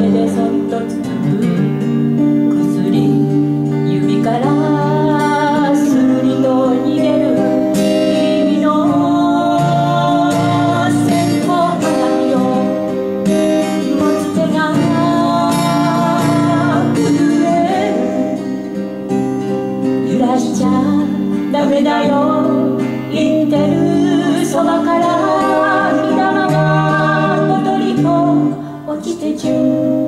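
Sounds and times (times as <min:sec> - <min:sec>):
strummed acoustic guitars: 0:00.0 - 0:30.0
woman singing folk song: 0:00.0 - 0:30.0.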